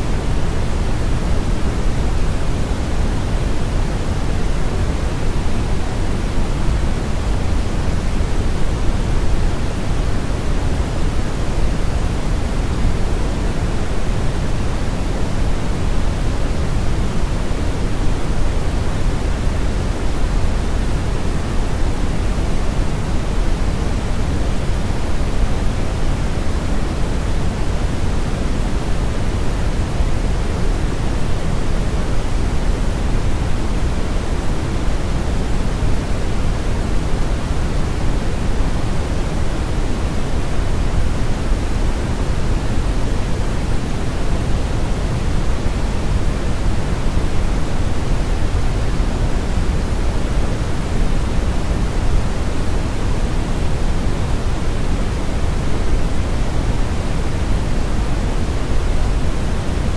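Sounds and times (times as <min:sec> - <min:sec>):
brown noise rush: 0:00.0 - 0:59.9.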